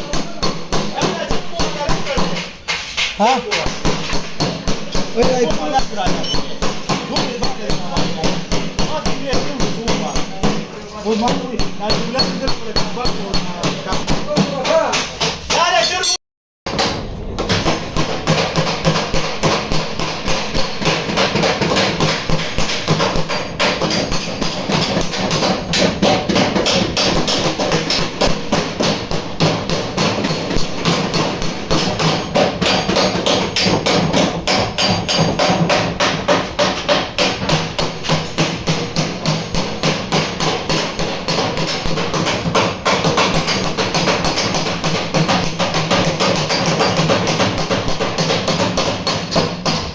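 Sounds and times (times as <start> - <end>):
hammer blows on sheet steel: 0.0 - 49.9.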